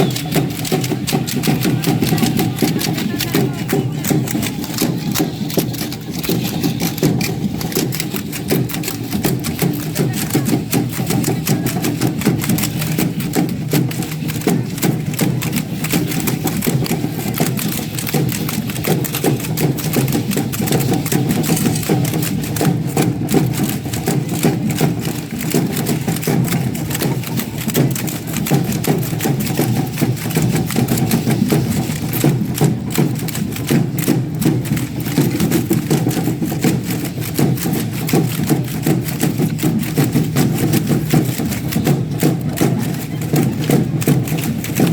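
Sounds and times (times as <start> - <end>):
fast percussion rattling: 0.0 - 44.9.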